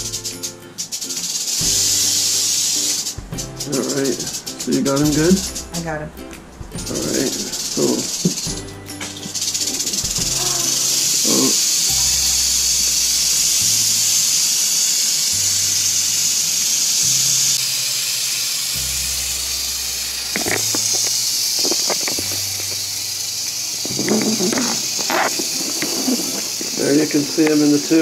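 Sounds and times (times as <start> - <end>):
rattlesnake rattle buzzing: 0.0 - 5.9, 6.8 - 28.0.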